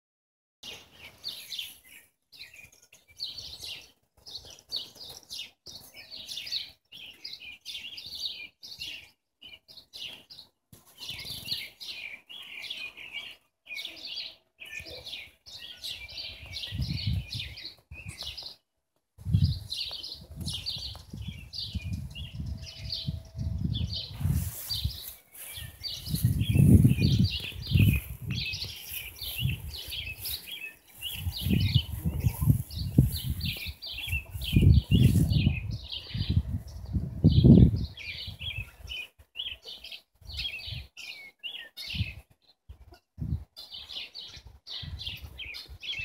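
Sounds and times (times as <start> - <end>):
songbirds chirping and singing: 0.6 - 46.0.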